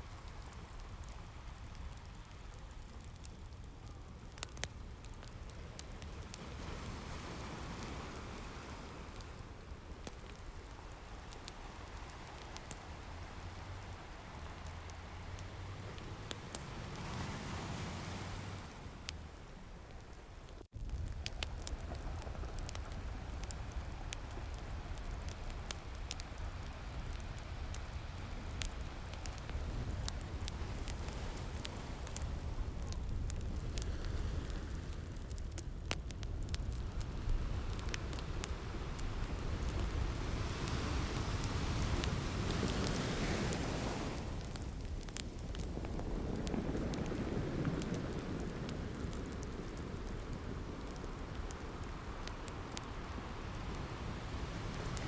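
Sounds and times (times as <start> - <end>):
wood fire crackling: 0.0 - 55.0
ocean waves: 5.7 - 20.6, 21.6 - 35.1, 37.0 - 55.0.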